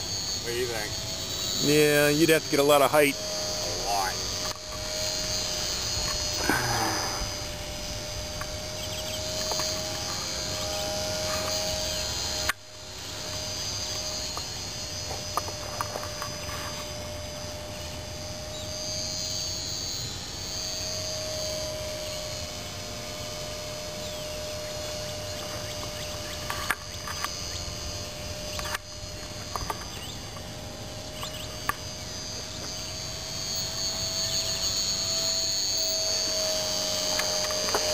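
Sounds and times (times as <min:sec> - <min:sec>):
model plane motor whine: 0:00.0 - 0:37.9.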